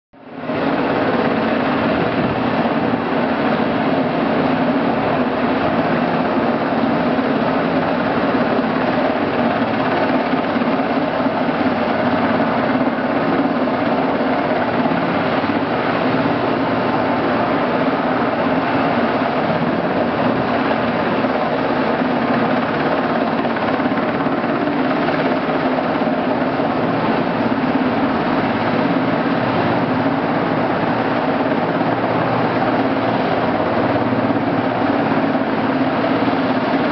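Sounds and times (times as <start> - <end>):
helicopter turbine and rotor: 0.2 - 36.9.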